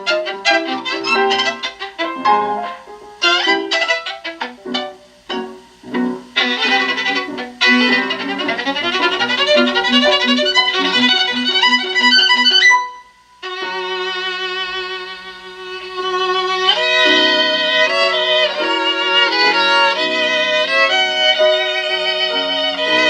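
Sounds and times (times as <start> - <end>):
violin music over loudspeakers: 0.0 - 23.0.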